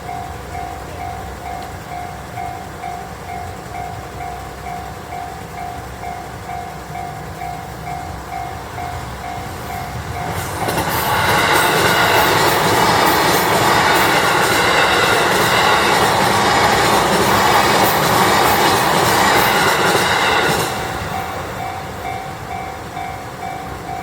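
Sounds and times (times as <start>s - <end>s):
railroad crossing bell dinging: 0.0s - 24.0s
train passing on rails: 0.0s - 24.0s.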